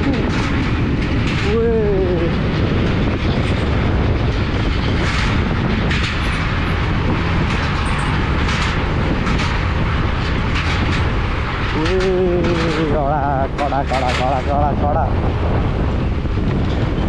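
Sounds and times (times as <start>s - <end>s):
metal deck clattering: 0.0s - 1.7s, 2.4s - 14.5s
scooter engine and tyres rumbling: 0.0s - 17.0s.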